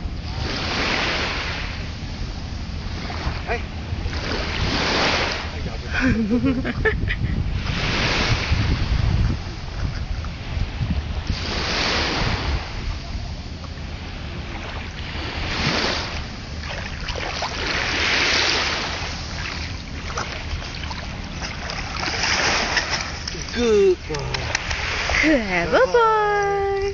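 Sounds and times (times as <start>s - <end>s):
small waves on sandy shore: 0.0s - 26.9s
wind buffeting microphone: 0.0s - 26.9s.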